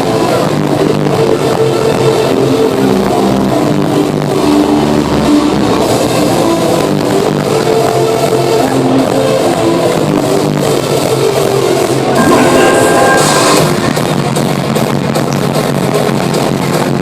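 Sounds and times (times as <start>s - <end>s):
loud hardstyle dance music: 0.0s - 17.0s.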